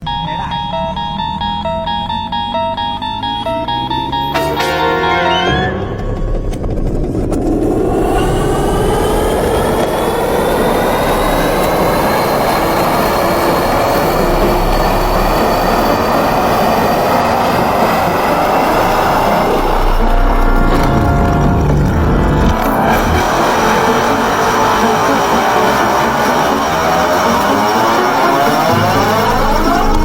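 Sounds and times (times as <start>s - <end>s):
machine whine: 0.0s - 30.0s.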